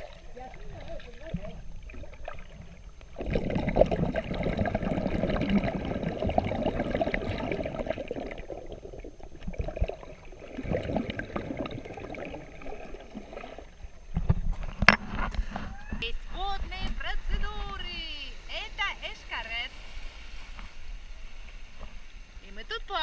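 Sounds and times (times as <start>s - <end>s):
water sloshing and gurgling: 0.0s - 22.6s.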